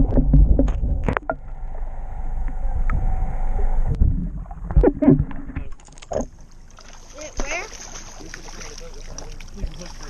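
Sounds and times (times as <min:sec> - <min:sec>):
boat engine rumble: 0:00.0 - 0:10.0.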